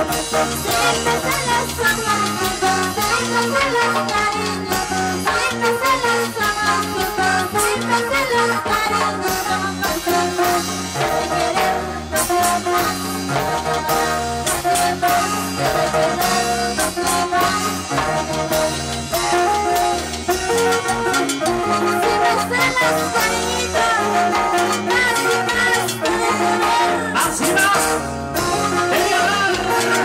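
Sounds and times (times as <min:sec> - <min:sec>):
live band playing dance music: 0:00.0 - 0:30.0.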